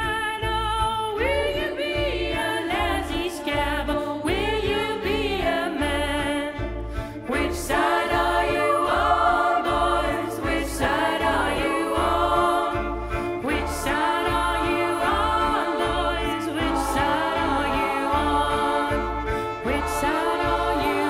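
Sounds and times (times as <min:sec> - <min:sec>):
choir singing: 0:01.4 - 0:06.6, 0:07.2 - 0:21.0.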